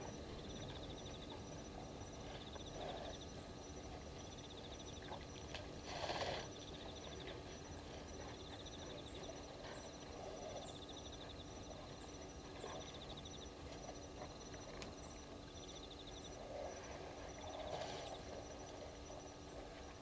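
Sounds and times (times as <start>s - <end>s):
insects chirping trills: 0.0s - 20.0s.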